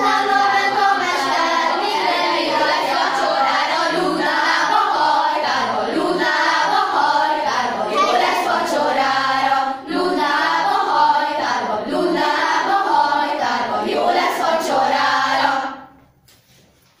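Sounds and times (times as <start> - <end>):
youth choir singing: 0.0 - 16.0.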